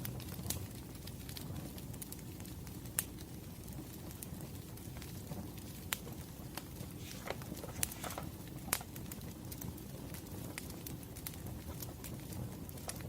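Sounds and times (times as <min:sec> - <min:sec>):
campfire rumbling: 0:00.0 - 0:13.0
fire crackling pops: 0:00.0 - 0:13.0.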